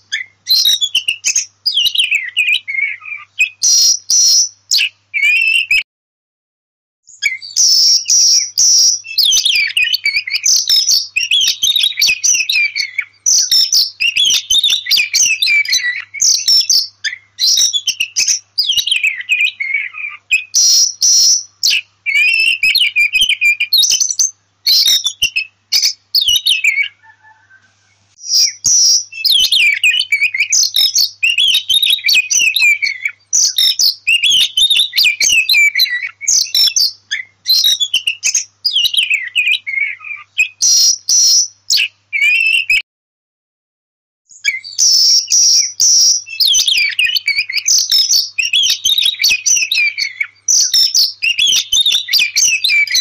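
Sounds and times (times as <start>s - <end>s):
bird singing: 0.0s - 5.8s, 7.1s - 42.8s, 44.3s - 53.0s.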